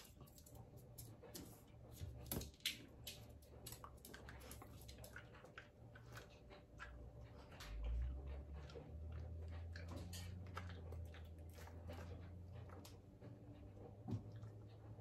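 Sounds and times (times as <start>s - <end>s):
dog chewing a treat: 0.0s - 15.0s.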